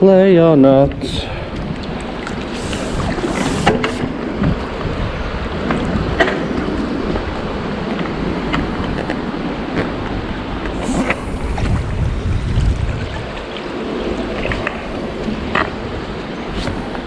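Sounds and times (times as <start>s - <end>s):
river water rushing: 1.2s - 17.0s.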